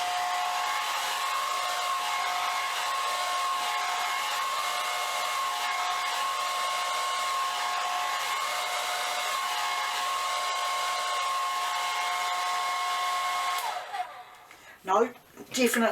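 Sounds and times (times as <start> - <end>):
hair dryer running: 0.0 - 14.6.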